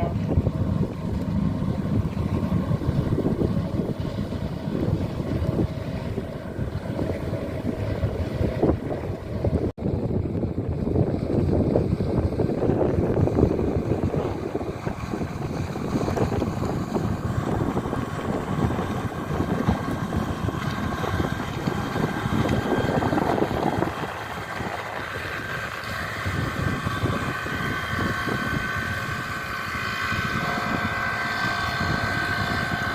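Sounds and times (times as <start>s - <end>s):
high engine whine: 0.0s - 32.9s
speedboat engine running: 0.0s - 32.9s
water rush: 0.0s - 32.9s
wind: 0.0s - 32.9s.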